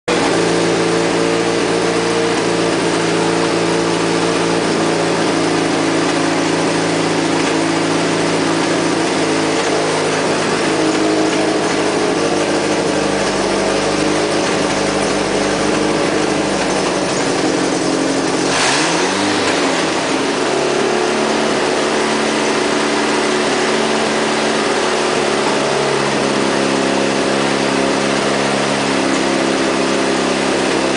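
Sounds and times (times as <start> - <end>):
car engine running: 0.1 - 30.9.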